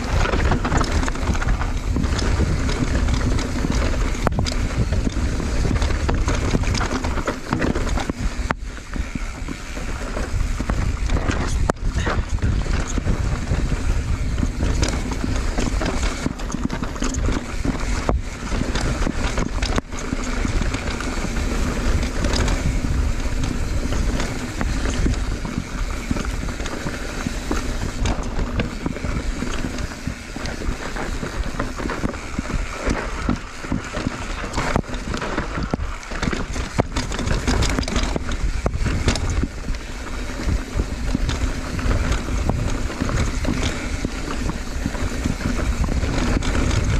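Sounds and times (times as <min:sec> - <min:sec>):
bike rattling over rough trail: 0:00.0 - 0:46.9
wind buffeting microphone: 0:00.0 - 0:46.9.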